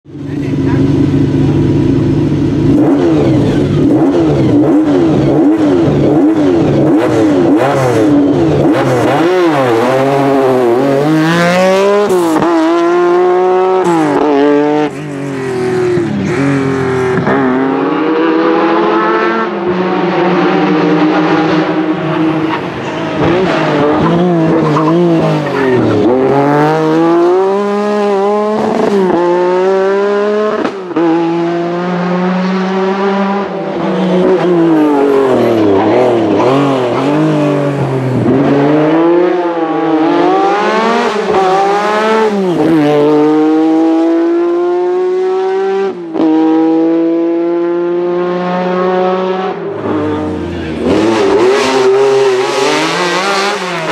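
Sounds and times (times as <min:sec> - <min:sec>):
rally car engine revving: 0:00.1 - 0:53.9.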